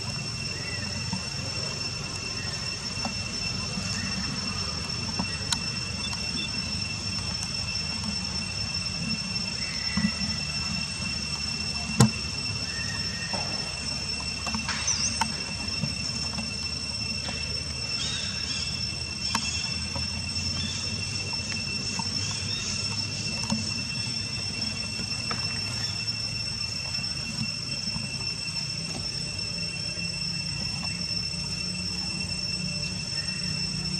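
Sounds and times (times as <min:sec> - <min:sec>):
faint high chirps: 0:00.0 - 0:33.9
high-pitched insect buzzing: 0:00.0 - 0:33.9.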